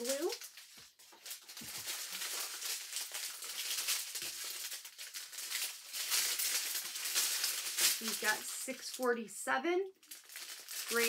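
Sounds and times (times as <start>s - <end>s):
plastic bags crinkling: 0.0s - 9.2s, 10.0s - 11.0s.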